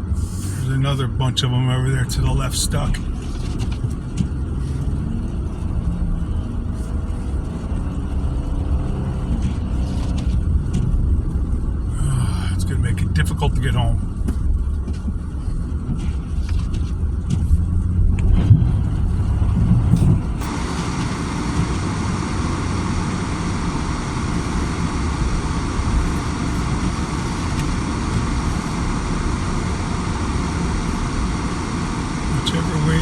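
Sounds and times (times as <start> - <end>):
engine and tyre rumble: 0.0 - 33.0.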